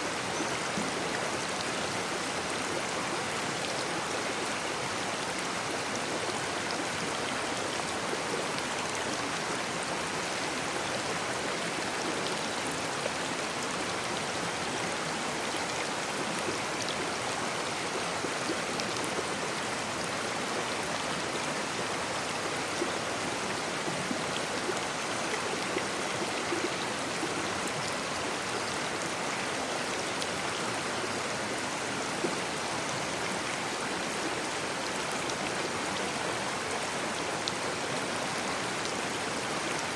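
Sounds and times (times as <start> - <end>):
brook water over stones: 0.0 - 39.9.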